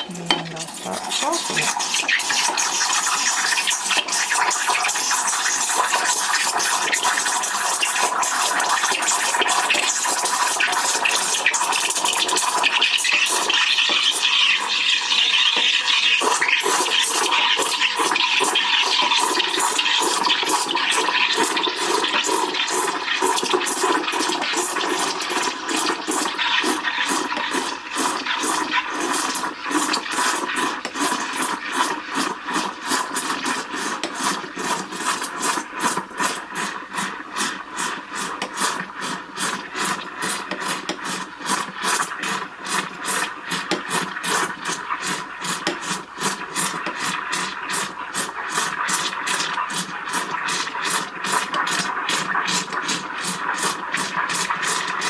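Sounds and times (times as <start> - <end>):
steam wand frothing milk: 0.0 - 55.0.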